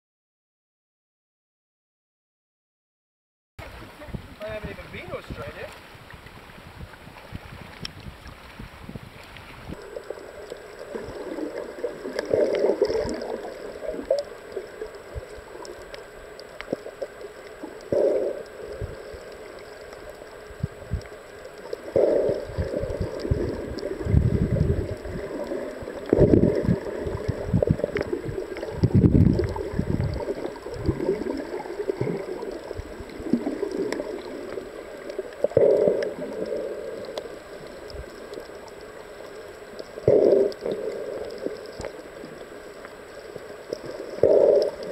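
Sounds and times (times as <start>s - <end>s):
underwater water gurgling: 3.6s - 44.9s.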